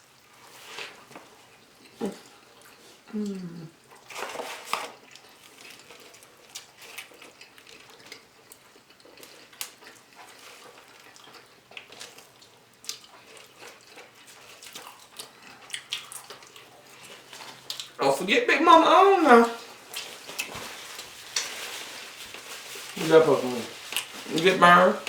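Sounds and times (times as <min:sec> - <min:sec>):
person chewing: 0:01.7 - 0:04.1, 0:04.9 - 0:18.0, 0:18.9 - 0:23.1, 0:23.7 - 0:25.0.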